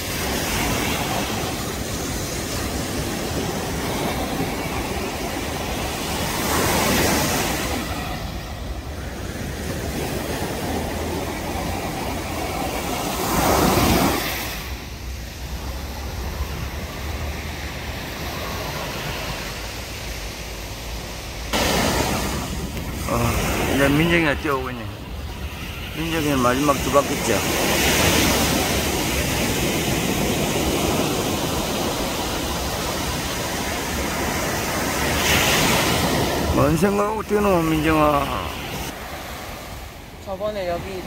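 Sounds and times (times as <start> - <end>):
surf waves breaking on sand: 0.0 - 41.0.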